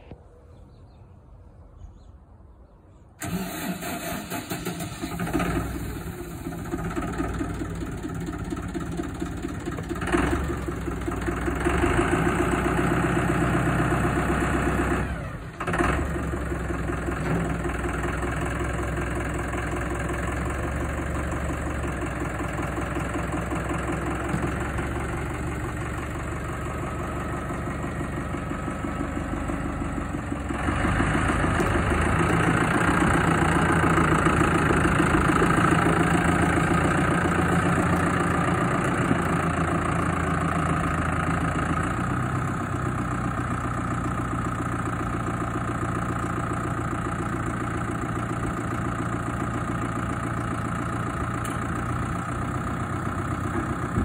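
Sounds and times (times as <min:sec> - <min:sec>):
diesel engine idling: 0:03.2 - 0:54.0
tractor diesel engine starting: 0:03.2 - 0:54.0.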